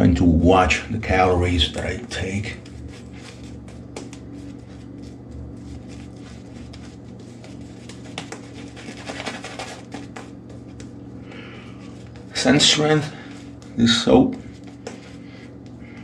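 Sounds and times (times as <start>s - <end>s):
shaving brush scrubbing on skin: 1.1s - 13.8s, 14.4s - 15.8s.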